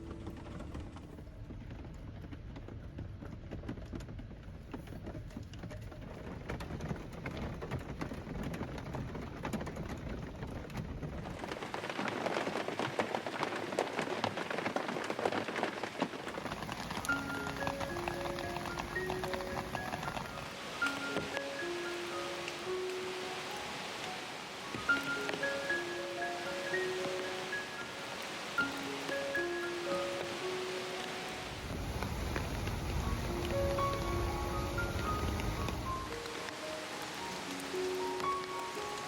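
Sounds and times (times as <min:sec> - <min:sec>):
rain drops striking a surface: 0:00.0 - 0:39.0.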